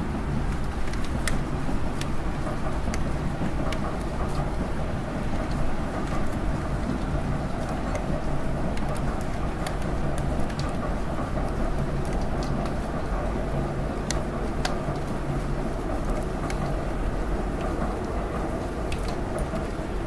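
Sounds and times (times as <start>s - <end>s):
city traffic rumble: 0.0s - 20.0s
raindrops ticking: 0.4s - 20.0s.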